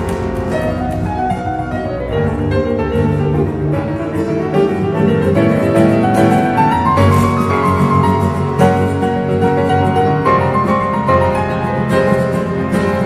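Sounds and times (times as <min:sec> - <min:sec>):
flamenco guitar: 0:00.0 - 0:13.0
grand piano: 0:00.0 - 0:13.0.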